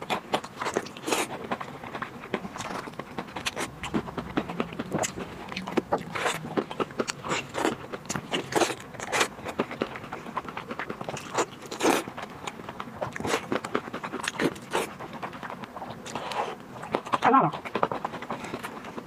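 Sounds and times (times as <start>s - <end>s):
eating clicks and smacks: 0.0s - 19.0s
person biting and chewing: 0.0s - 19.0s.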